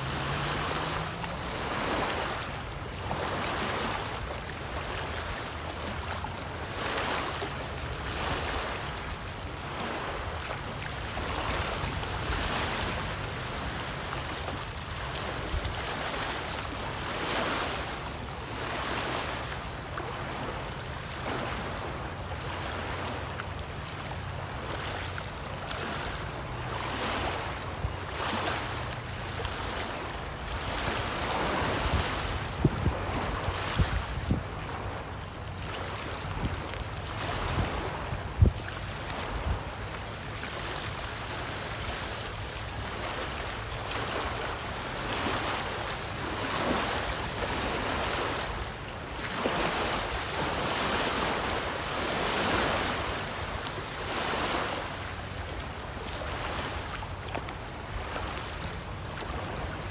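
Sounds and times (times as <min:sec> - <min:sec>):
waves lapping against rocky shore: 0:00.0 - 0:59.9
wind rumbling on microphone: 0:00.0 - 0:59.9.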